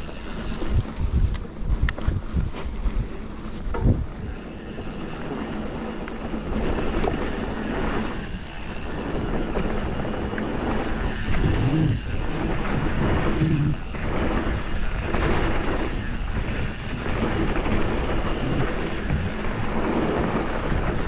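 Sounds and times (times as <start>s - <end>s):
bike tyres rolling on dirt: 0.0s - 21.0s
wind rushing over microphone: 0.0s - 21.0s.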